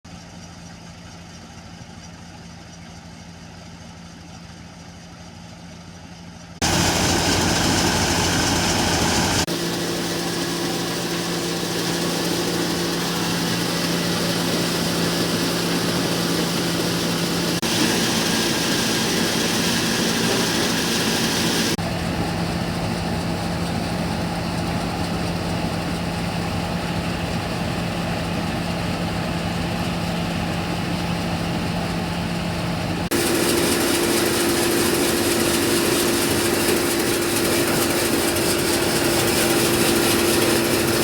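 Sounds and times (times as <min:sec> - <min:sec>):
tractor diesel engine running: 0:06.5 - 0:41.0.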